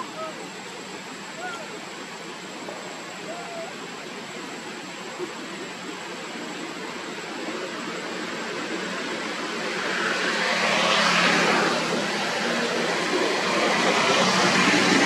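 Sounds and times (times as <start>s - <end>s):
hiss-like outdoor background noise: 0.0s - 15.0s.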